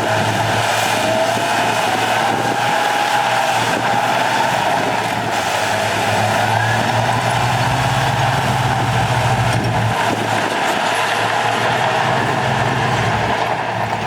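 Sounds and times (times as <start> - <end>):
diesel machinery engine hum: 0.0 - 14.0.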